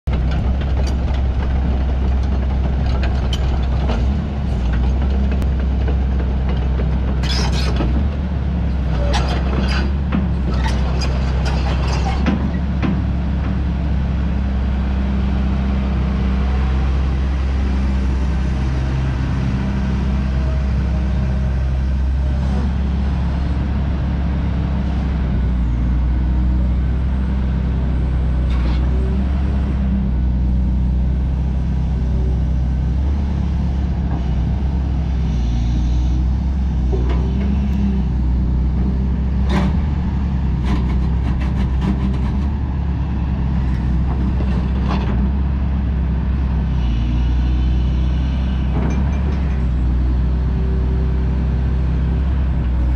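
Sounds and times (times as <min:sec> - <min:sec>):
excavator diesel engine running: 0:00.1 - 0:52.9.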